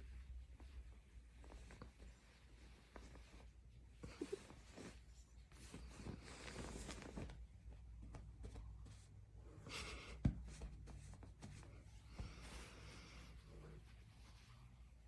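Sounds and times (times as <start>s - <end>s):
bed sheets rustling: 0.0s - 15.0s.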